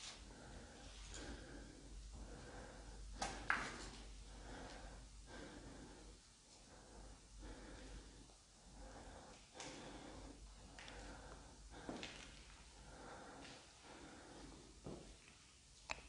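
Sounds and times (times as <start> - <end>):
soft breathing: 0.0 - 15.8.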